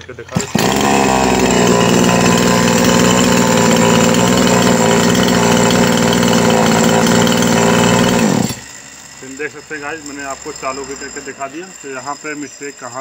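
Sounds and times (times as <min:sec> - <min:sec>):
chainsaw engine running: 0:00.0 - 0:13.0.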